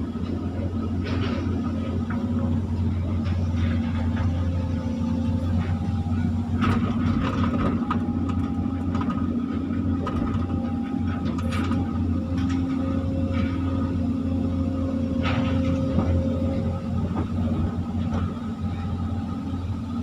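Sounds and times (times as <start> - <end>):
diesel engine running under load: 0.0 - 20.0
steady hydraulic whine: 0.0 - 20.0.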